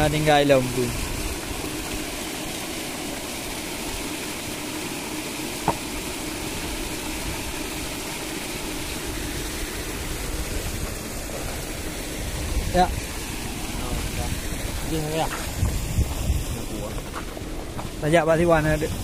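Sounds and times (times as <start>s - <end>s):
aerator mechanical hum: 0.0s - 19.0s
water churning and splashing: 0.0s - 19.0s.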